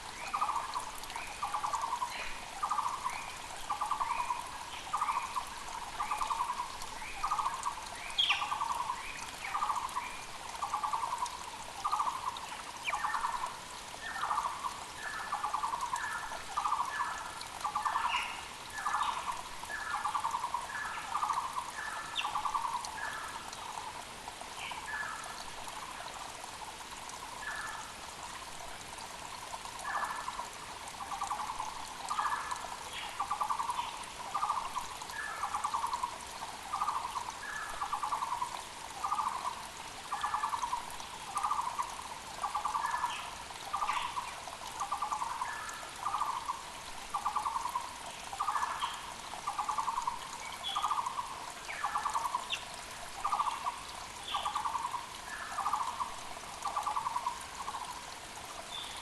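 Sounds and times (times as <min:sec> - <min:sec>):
mountain creek rushing: 0:00.0 - 0:59.0
small birds chirping: 0:00.2 - 0:24.0, 0:29.8 - 0:58.0.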